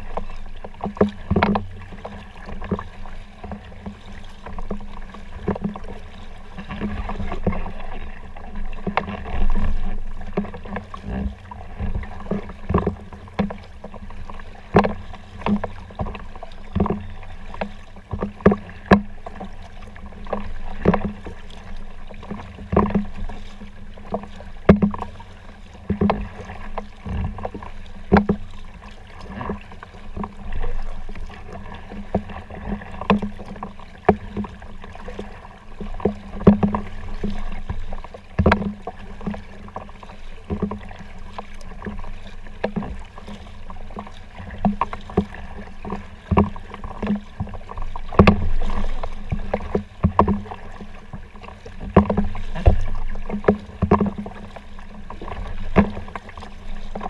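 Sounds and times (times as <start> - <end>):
continuous water noise: 0.0 - 57.0
paddle splashing in water: 0.0 - 57.0.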